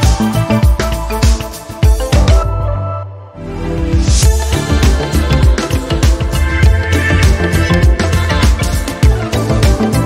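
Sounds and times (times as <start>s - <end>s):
kick-drum beat music: 0.0s - 2.6s, 4.0s - 10.0s.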